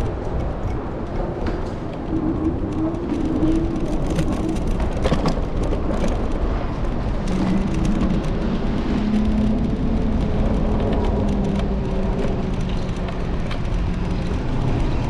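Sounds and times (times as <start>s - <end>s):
street traffic: 0.0s - 15.0s
wind on microphone: 0.0s - 15.0s.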